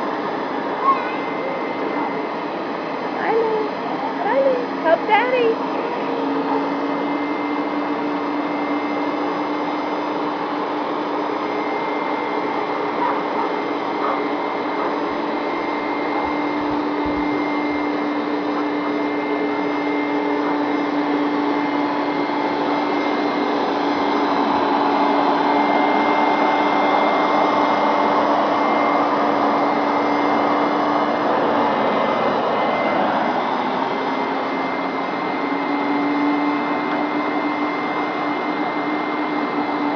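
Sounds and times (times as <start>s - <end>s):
carpet cleaner running: 0.0s - 39.9s.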